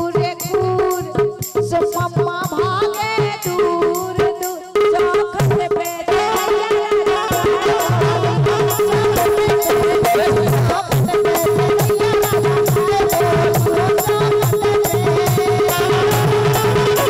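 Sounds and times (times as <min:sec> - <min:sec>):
rattle and hand drum percussion: 0:00.0 - 0:17.0
woman singing into a microphone: 0:00.0 - 0:17.0.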